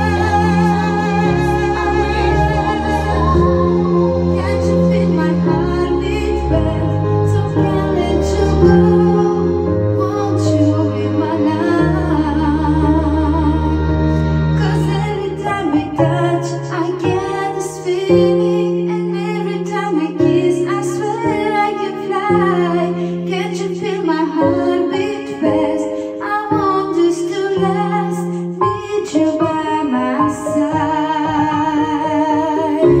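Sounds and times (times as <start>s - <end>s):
music backing track: 0.0s - 33.0s
woman singing: 0.0s - 33.0s.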